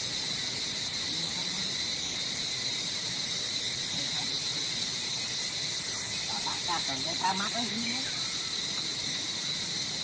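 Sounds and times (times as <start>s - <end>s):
insects droning in trees: 0.0s - 10.0s.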